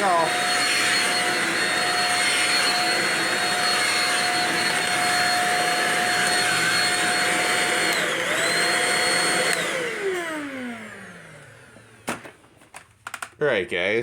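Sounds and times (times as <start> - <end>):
vacuum cleaner on carpet: 0.0 - 12.3.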